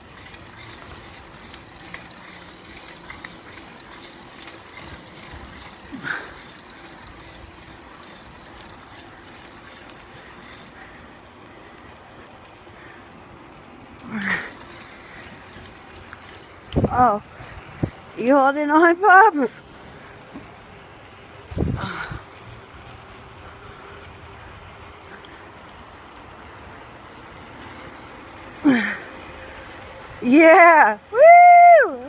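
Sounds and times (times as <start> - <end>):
wind hiss: 0.0 - 18.2, 19.5 - 30.3
small rattles: 0.0 - 26.8
bike rolling on pavement: 0.0 - 32.0.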